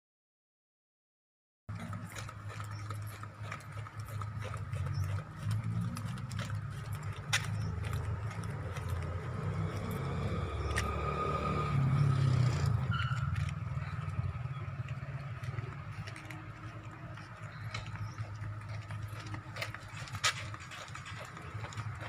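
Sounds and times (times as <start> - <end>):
vehicle engine running: 1.7 - 22.0.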